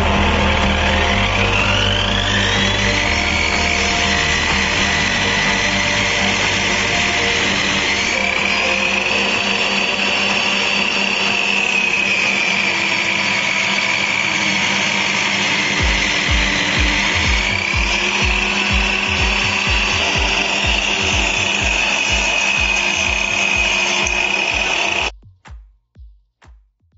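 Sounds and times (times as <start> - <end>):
background music with steady beat: 0.0 - 13.0, 15.8 - 26.9
saw motor whine: 0.0 - 25.1.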